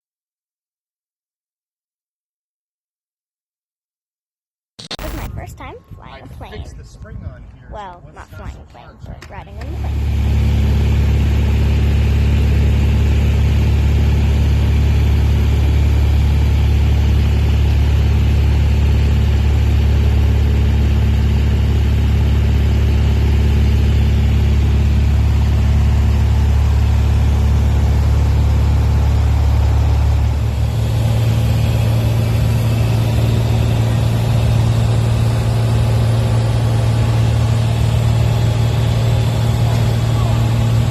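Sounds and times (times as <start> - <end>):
airplane engine and propeller droning: 5.0 - 40.9.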